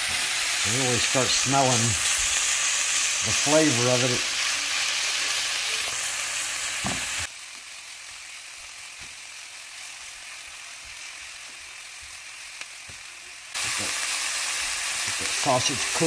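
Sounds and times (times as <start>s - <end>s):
food sizzling in a skillet: 0.0s - 16.0s.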